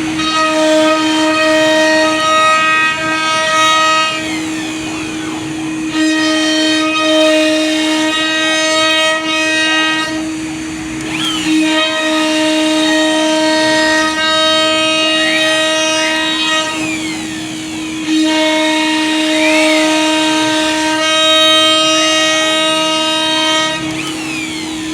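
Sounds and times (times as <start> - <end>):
short rising and falling whines: 0.0 - 24.9
wood router spindle whine: 0.0 - 24.9.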